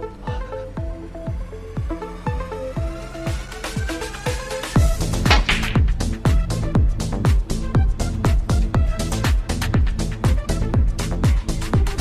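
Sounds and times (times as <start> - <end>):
electronic dance music: 0.8 - 12.0.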